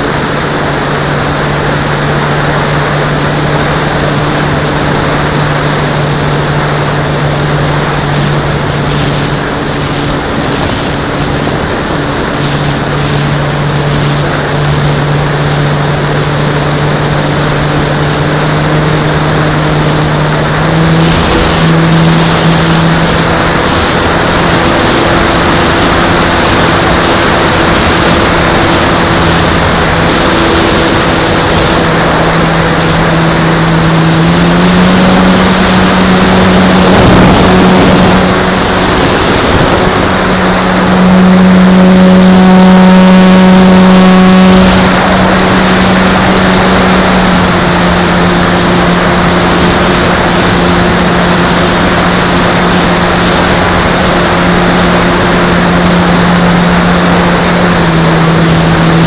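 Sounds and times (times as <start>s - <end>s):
model airplane motor and propeller: 0.0s - 59.0s
wind rushing over microphone: 0.0s - 59.0s.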